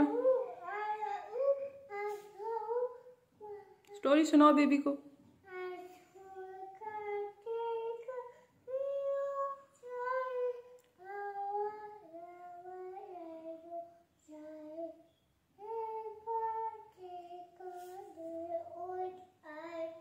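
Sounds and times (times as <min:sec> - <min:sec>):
toddler singing wordlessly: 0:00.0 - 0:03.9, 0:05.4 - 0:20.0.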